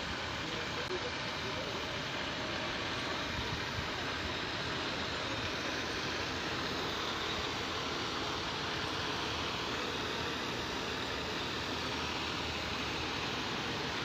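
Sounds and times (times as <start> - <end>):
heavy truck: 0.0 - 14.0
street traffic rumble: 0.0 - 14.0.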